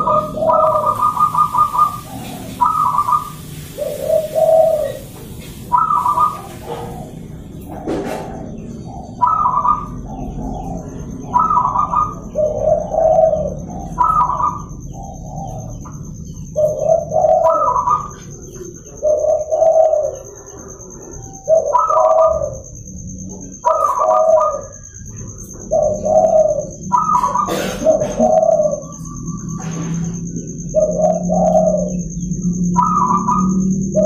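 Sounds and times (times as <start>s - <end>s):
doves cooing: 0.0s - 34.0s.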